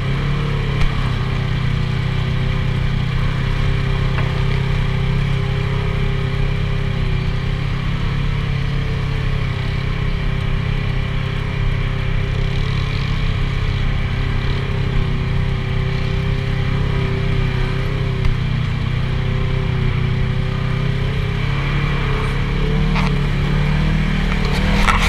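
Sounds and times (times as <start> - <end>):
utility vehicle engine running: 0.0 - 25.0.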